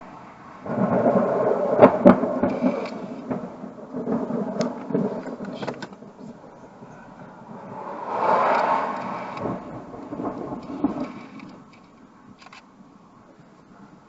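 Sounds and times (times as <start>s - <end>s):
thunder cracking and rumbling: 0.0s - 12.4s.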